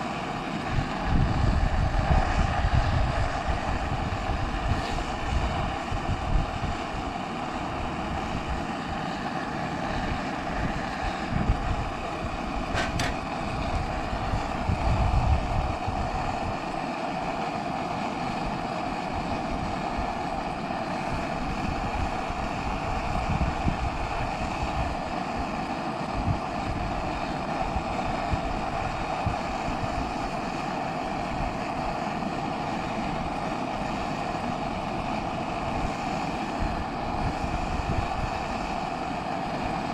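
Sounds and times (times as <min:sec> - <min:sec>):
wind buffeting microphone: 0:00.4 - 0:16.8, 0:18.3 - 0:32.0, 0:33.0 - 0:39.9.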